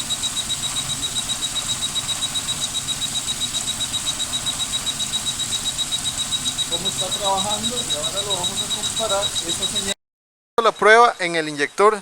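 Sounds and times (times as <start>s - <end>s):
car engine idling: 0.0s - 10.0s
rapid high-pitched beeping: 0.0s - 10.0s, 10.6s - 12.0s.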